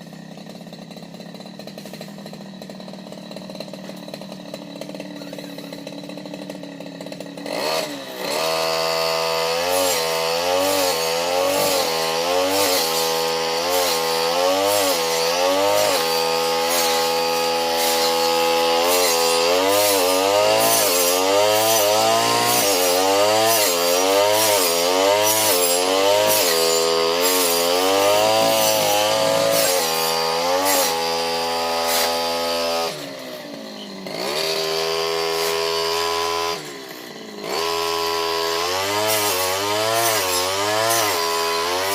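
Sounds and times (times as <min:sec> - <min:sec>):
brush cutter engine cutting plants: 0:00.0 - 0:41.9.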